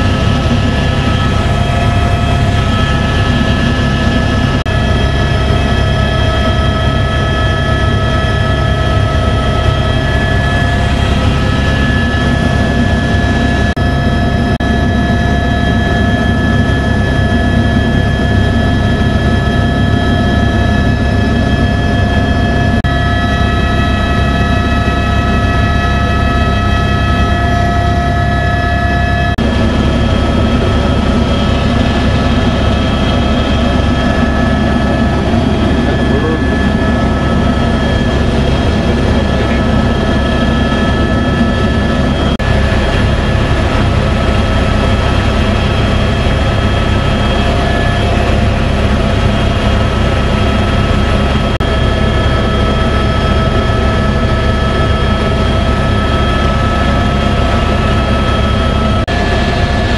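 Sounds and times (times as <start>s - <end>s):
helicopter engine and rotor drone: 0.0s - 59.9s
high whining tones: 0.0s - 59.9s.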